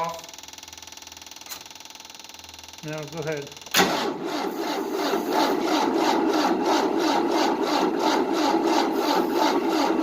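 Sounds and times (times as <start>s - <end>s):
engine cranking on starter: 0.3s - 10.0s.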